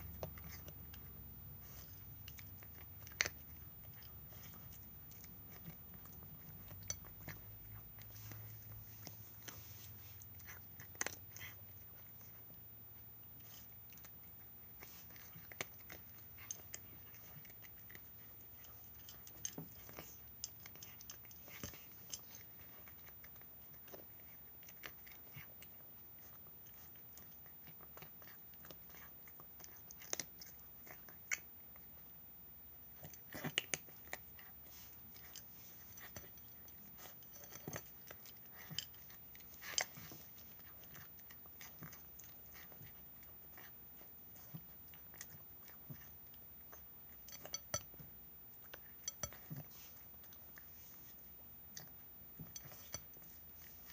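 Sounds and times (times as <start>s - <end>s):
cat chewing and crunching: 0.0s - 53.9s.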